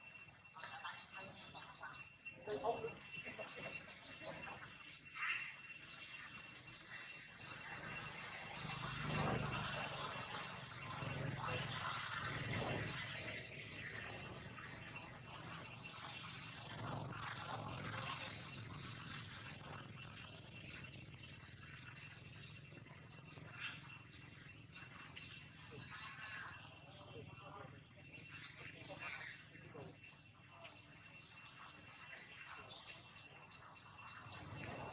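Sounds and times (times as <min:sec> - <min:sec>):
bird chirping: 0:00.0 - 0:34.9
faint steady high hum: 0:00.0 - 0:34.9.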